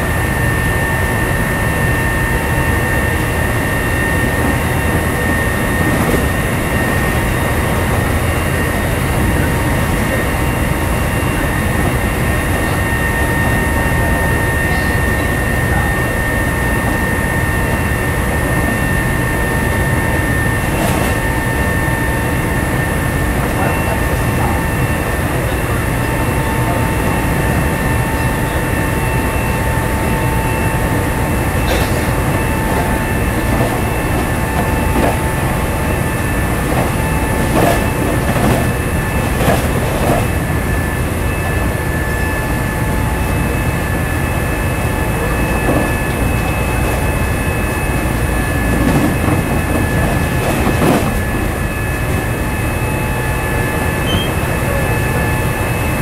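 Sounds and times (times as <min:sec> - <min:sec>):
traction motor whine: 0:00.0 - 0:56.0
train rolling rumble: 0:00.0 - 0:56.0.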